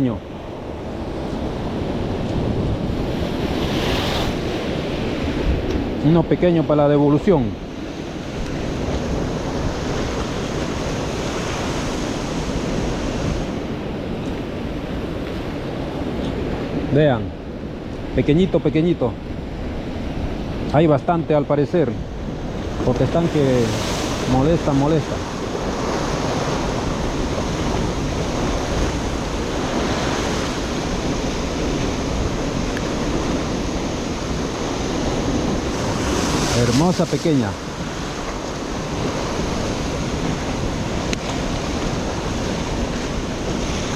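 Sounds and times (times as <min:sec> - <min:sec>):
wind on microphone: 0:00.0 - 0:06.4, 0:07.0 - 0:18.2, 0:19.2 - 0:43.9
ocean surf washing: 0:00.0 - 0:43.9.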